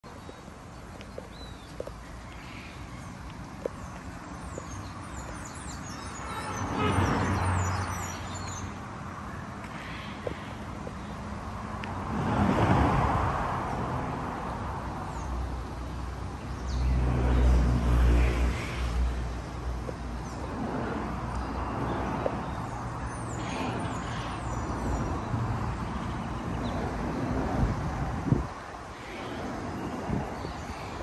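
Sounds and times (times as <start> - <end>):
street ambience: 0.0 - 31.0.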